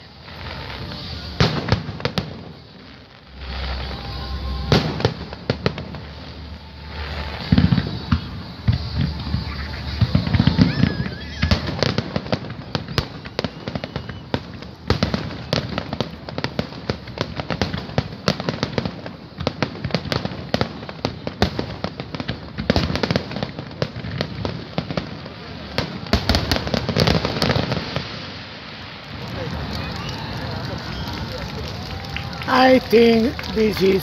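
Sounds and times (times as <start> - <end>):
fireworks bangs and crackling bursts: 0.0 - 34.0.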